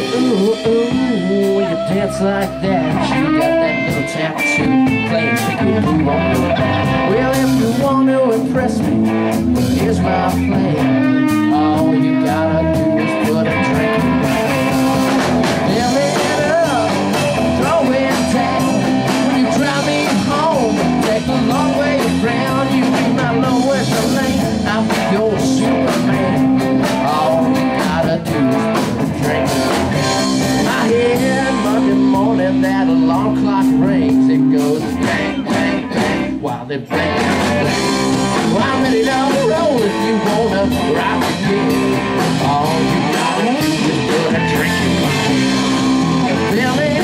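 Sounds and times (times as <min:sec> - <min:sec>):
blues-rock band playing: 0:00.0 - 0:47.0
guitar: 0:00.0 - 0:47.0
person singing: 0:00.0 - 0:47.0.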